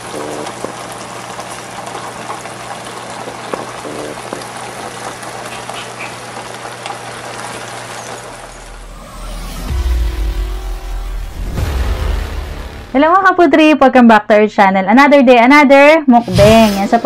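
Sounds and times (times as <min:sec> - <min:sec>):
noodles sizzling and bubbling: 0:00.0 - 0:13.7.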